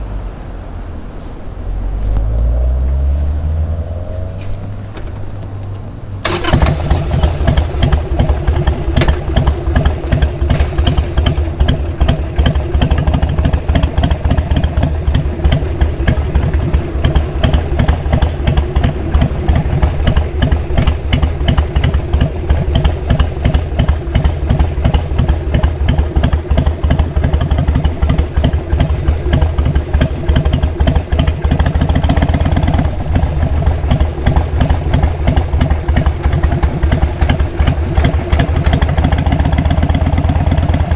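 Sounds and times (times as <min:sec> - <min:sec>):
motorcycle engine idling: 0:03.9 - 0:40.9.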